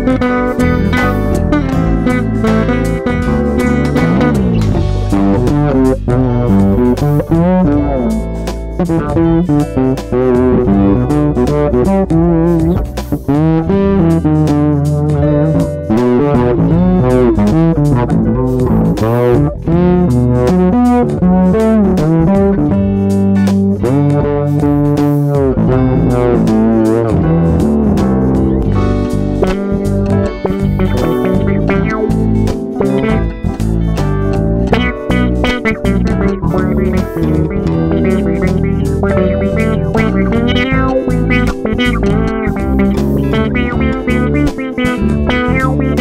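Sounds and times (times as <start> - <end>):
fretless electric basses playing: 0.0 - 46.0.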